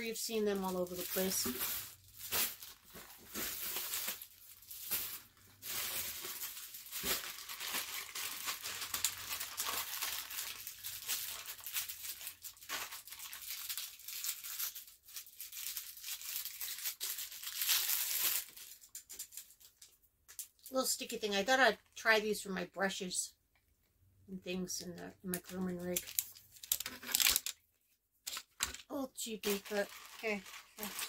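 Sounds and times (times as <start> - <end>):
packaging crinkling and tearing: 0.4 - 20.7, 25.4 - 27.6, 28.3 - 31.0.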